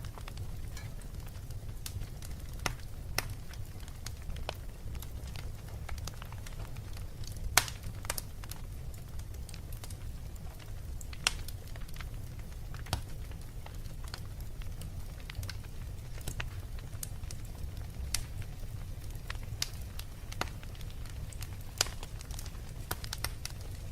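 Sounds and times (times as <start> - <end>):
fire crackling: 0.0 - 23.9
sharp pops from fire: 0.1 - 10.0, 10.6 - 12.1, 12.7 - 23.9.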